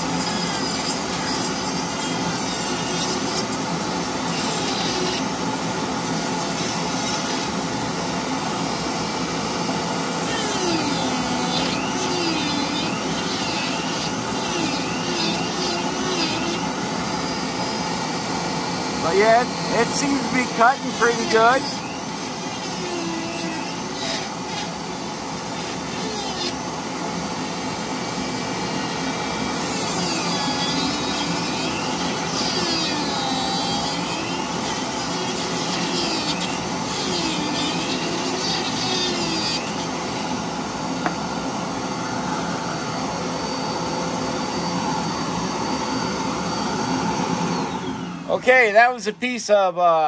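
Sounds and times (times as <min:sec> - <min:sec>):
rotary tool whining: 0:00.0 - 0:48.4.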